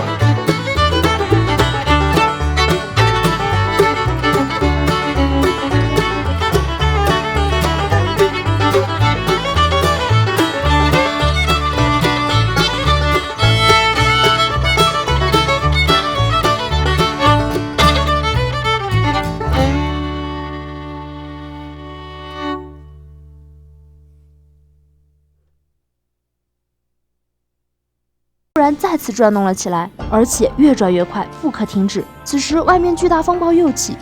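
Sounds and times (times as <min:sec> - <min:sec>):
lively instrumental music: 0:00.0 - 0:23.5, 0:28.6 - 0:34.0.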